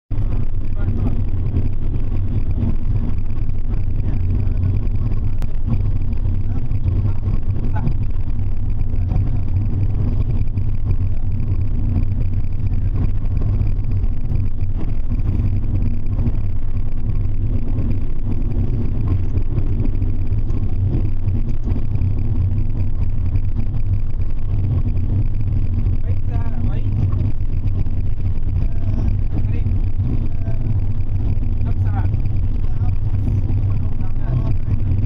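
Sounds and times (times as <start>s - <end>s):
bus engine and road rumble: 0.1s - 35.0s
constant hum: 0.1s - 35.0s.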